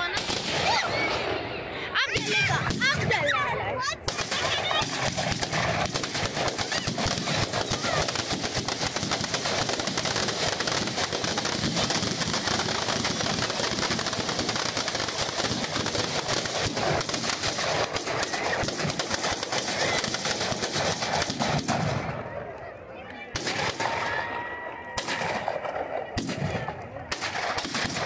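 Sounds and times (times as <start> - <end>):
firecrackers crackling: 0.0 - 28.0.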